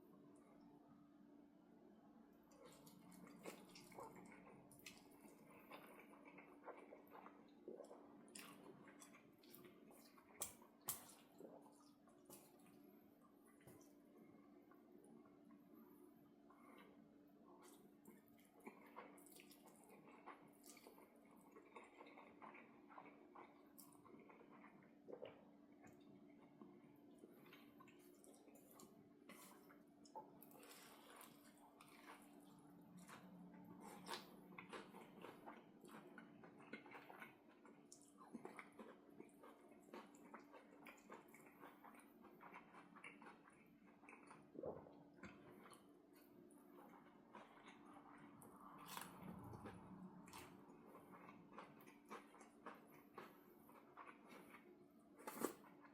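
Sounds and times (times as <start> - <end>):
faint steady hum: 0.0 - 55.9
person chewing wetly: 2.5 - 15.6, 16.5 - 55.9.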